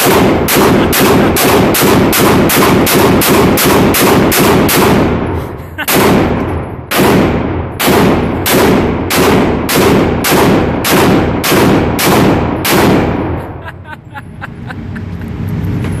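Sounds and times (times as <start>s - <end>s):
pistol shots with echo: 0.0s - 13.6s.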